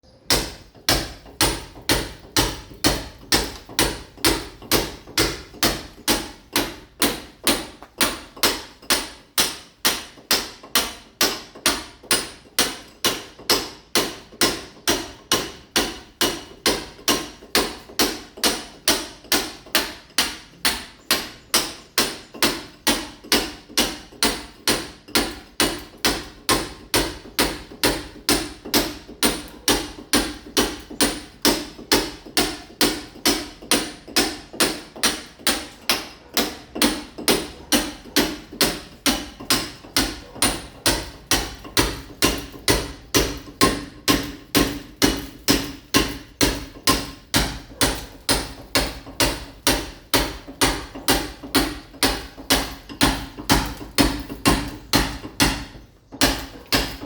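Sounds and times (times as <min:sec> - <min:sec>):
hammer chipping masonry: 0:00.0 - 0:57.0.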